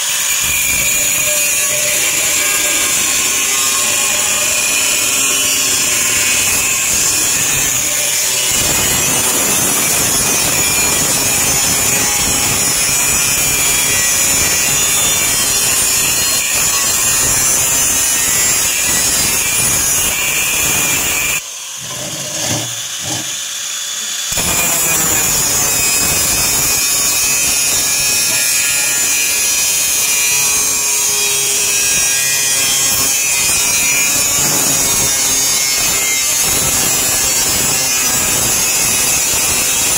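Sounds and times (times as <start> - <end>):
power tool cutting sheet metal: 0.0 - 39.9.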